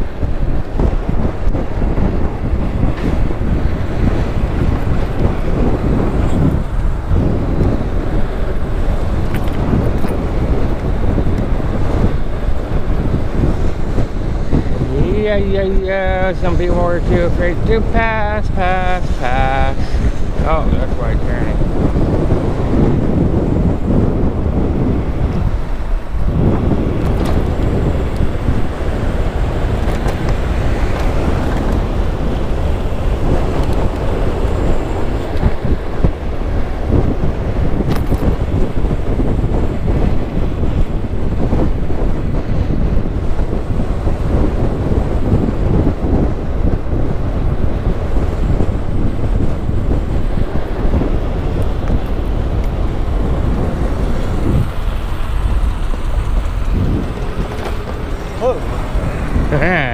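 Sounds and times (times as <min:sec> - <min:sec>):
bike knocking and rattling: 0:00.0 - 0:14.8, 0:21.5 - 0:59.9
steady low rumble: 0:00.0 - 0:59.9
wind rushing over microphone: 0:00.0 - 0:59.9.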